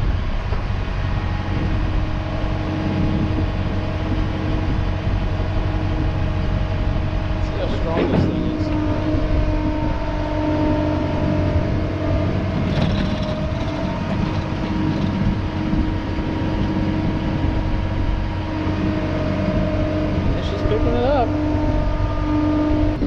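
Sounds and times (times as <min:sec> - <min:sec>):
truck engine droning: 0:00.0 - 0:23.0.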